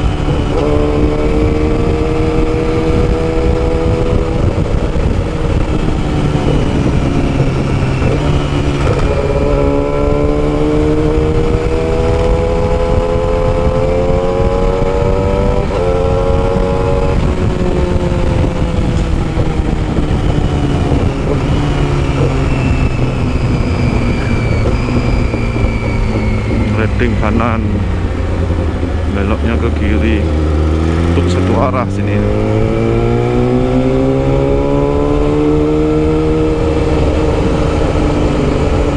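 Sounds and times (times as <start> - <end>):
motorcycle engine revving: 0.0 - 38.9
wind rush: 0.0 - 38.9.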